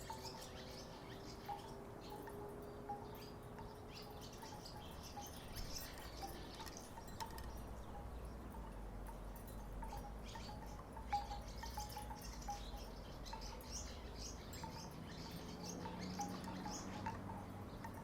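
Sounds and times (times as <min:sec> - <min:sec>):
wooden wind chimes knocking: 0:00.0 - 0:18.0.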